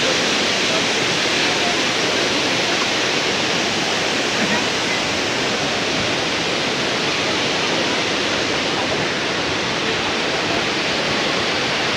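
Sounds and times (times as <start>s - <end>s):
rush of flowing water: 0.0s - 11.9s.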